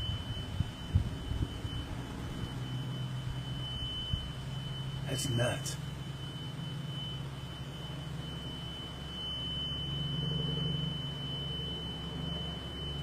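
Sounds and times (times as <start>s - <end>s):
low droning hum: 0.0s - 13.0s
steady high-pitched tone: 0.0s - 13.0s.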